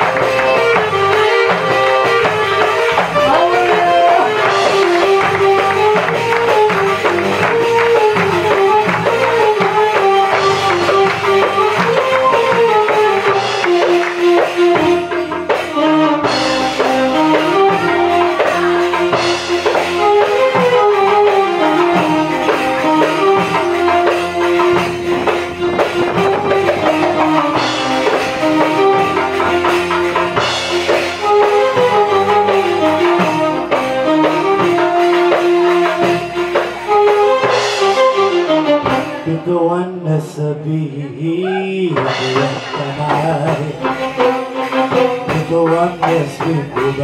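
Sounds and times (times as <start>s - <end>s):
hand drum: 0.0s - 39.4s, 41.5s - 47.0s
electronic keyboard melody: 0.0s - 39.6s, 41.6s - 47.0s.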